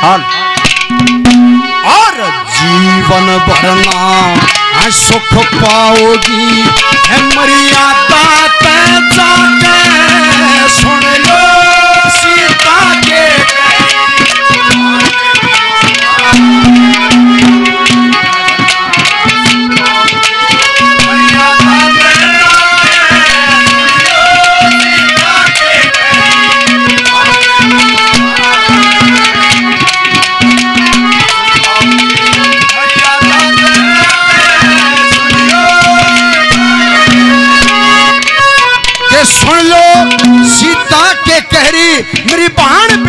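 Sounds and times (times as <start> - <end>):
hand drum fast rhythm: 0.6 - 43.0.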